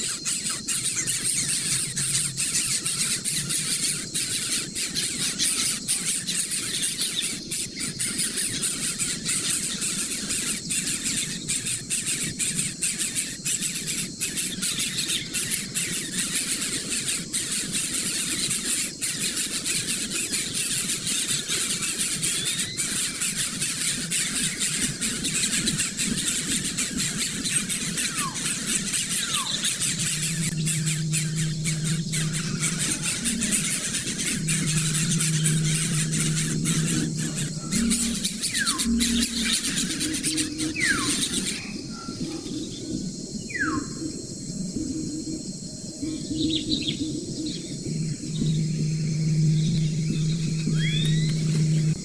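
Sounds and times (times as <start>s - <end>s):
many birds chirping: 0.0s - 44.2s, 45.9s - 52.0s.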